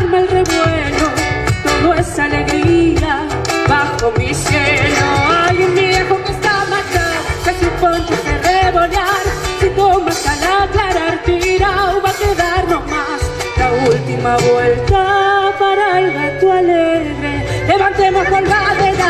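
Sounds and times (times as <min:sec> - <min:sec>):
person singing with vibrato: 0:00.0 - 0:19.0
strummed rhythmic accompaniment: 0:00.0 - 0:19.0.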